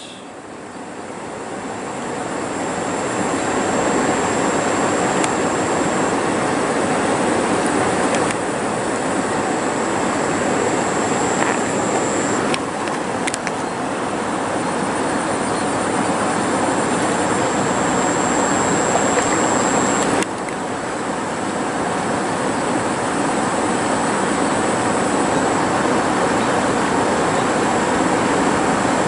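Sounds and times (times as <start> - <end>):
thin high whine: 0.0 - 29.0
river water rushing: 0.4 - 29.0.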